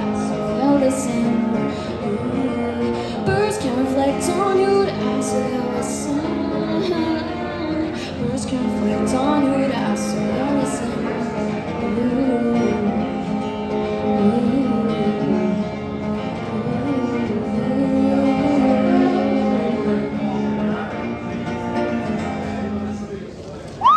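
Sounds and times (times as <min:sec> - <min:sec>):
person singing wordlessly: 0:00.0 - 0:21.0
acoustic guitar playing: 0:00.0 - 0:23.6.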